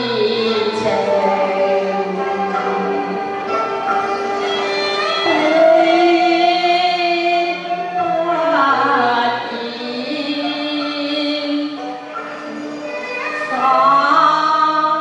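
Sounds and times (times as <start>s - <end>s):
opera singing: 0.0s - 3.8s, 4.7s - 11.9s, 12.8s - 15.0s
instrumental accompaniment: 0.0s - 15.0s.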